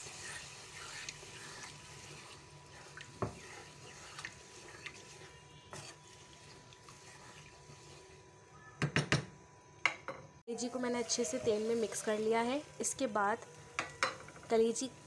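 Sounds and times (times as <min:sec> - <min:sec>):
food sizzling in oil: 0:00.0 - 0:08.3, 0:10.5 - 0:15.0.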